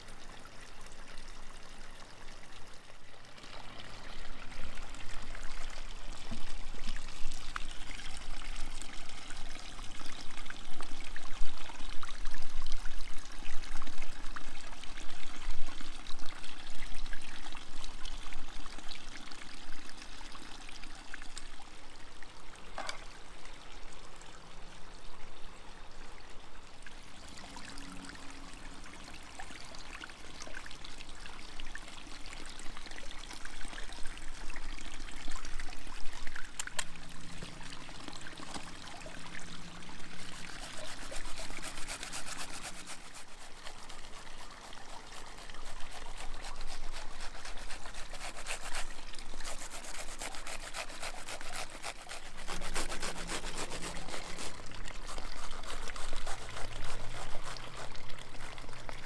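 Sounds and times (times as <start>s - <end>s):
water running and trickling: 0.0s - 59.0s.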